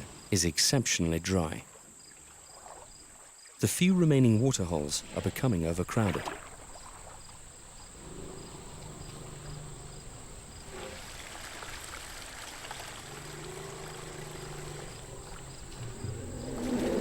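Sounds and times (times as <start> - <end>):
insects chirping: 0.0 - 17.0
water splashing and trickling: 1.4 - 17.0.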